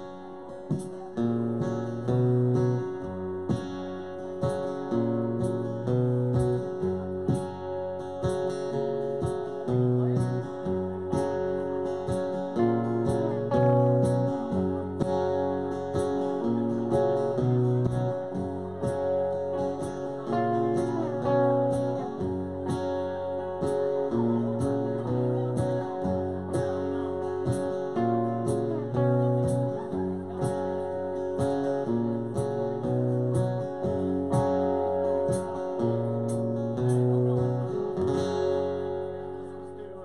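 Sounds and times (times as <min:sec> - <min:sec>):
guitar chords: 0:00.0 - 0:40.0
high tapping beat: 0:03.5 - 0:38.4.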